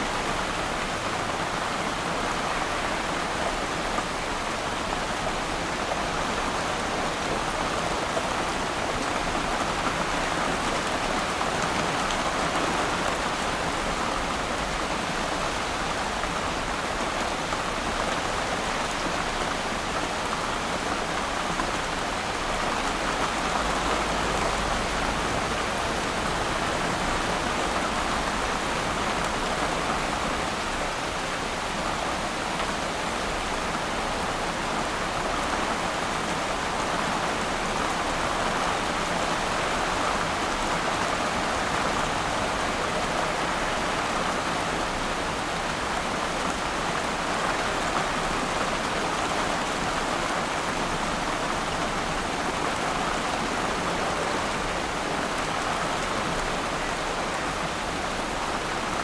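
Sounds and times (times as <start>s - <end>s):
rain falling on water: 0.0s - 59.0s.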